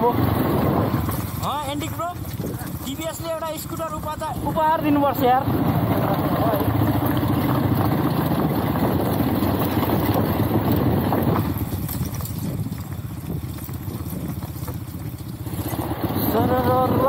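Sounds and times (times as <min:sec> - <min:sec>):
motorbike engine running: 0:00.0 - 0:17.0
road noise: 0:00.0 - 0:17.0.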